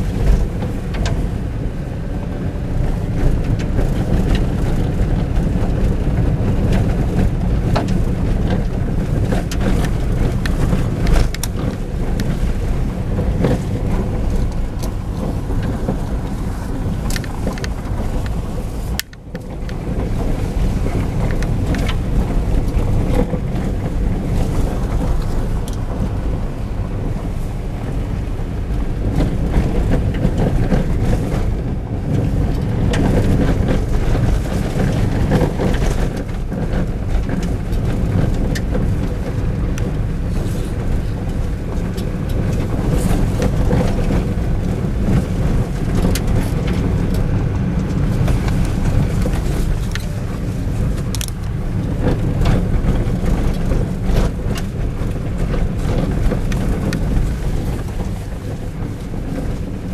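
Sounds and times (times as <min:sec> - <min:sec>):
car driving on gravel: 0:00.0 - 0:59.9.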